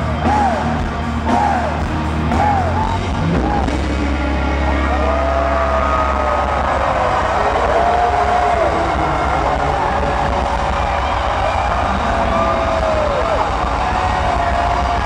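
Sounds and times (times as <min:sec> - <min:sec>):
heavy metal band playing live: 0:00.0 - 0:15.0.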